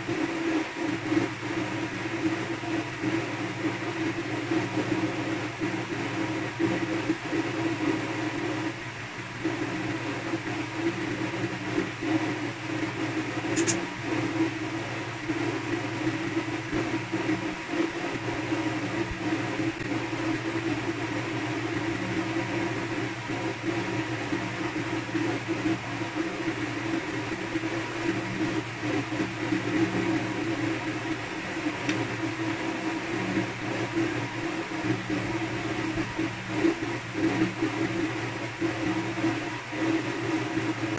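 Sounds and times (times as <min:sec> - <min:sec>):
machine humming: 0:00.0 - 0:40.9.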